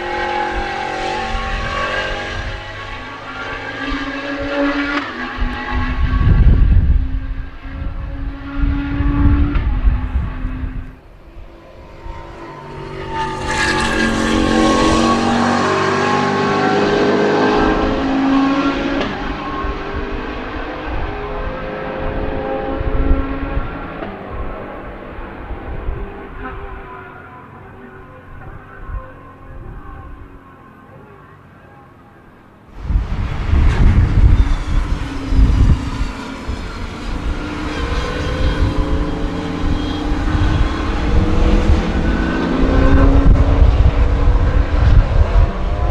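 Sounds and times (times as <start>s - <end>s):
wind buffeting microphone: 0.0s - 26.9s, 28.2s - 30.4s, 32.7s - 45.9s
race car engine accelerating: 0.0s - 45.9s.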